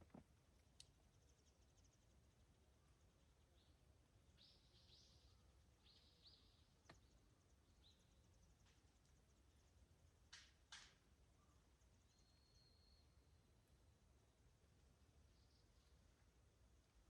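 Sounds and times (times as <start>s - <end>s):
faint forest ambience: 0.0s - 17.0s.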